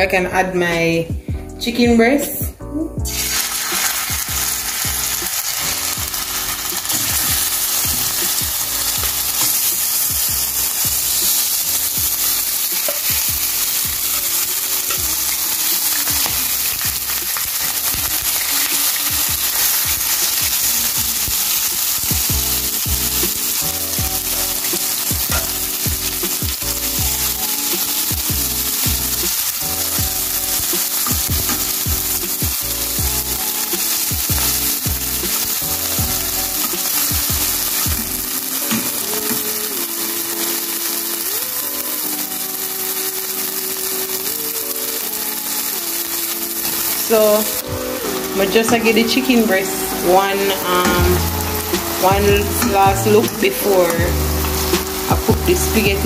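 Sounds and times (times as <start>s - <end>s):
chicken sizzling in a pot: 3.0s - 56.0s.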